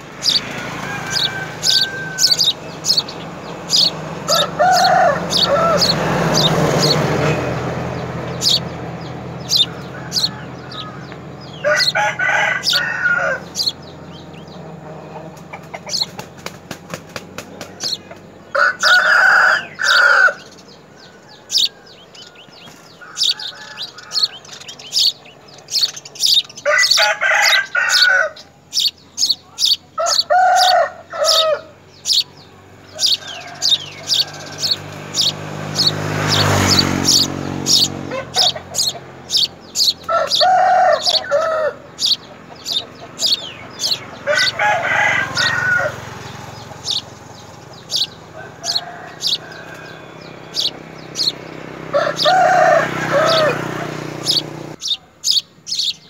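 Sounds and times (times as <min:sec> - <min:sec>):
louder lower bird calls: 0:00.0 - 0:56.0
nestlings chirping rapidly: 0:00.0 - 0:56.0.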